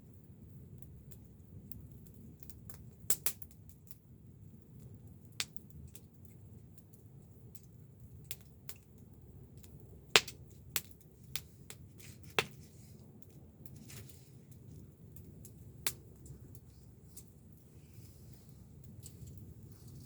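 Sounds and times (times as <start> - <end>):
low rush of flame: 0.0 - 20.0
wood fire crackling and popping: 0.0 - 20.0.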